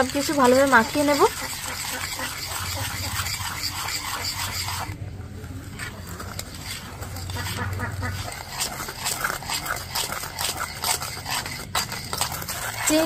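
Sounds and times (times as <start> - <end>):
whisk scraping metal bowl: 0.0 - 13.0.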